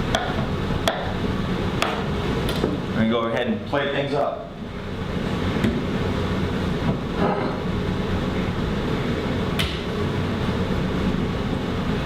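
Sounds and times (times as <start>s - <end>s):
ventilation fan drone: 0.0s - 12.0s.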